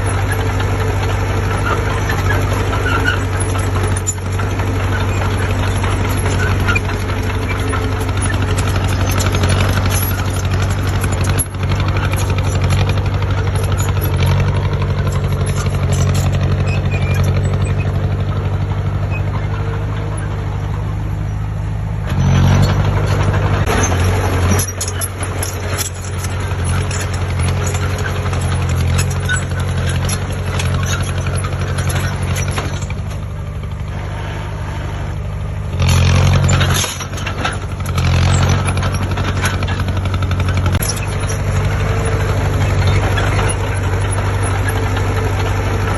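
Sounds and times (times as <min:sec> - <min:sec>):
diesel engine deep hum: 0:00.0 - 0:45.9.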